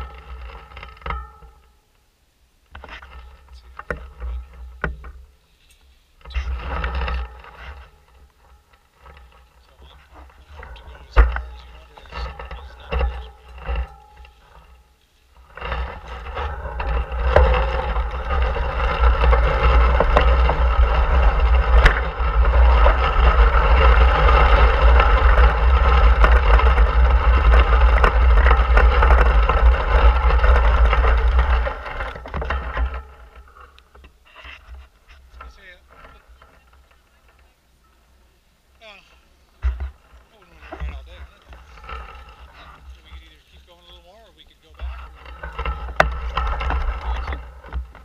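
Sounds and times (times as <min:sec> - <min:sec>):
bicycle tyres rolling on gravel: 0:00.0 - 0:48.0.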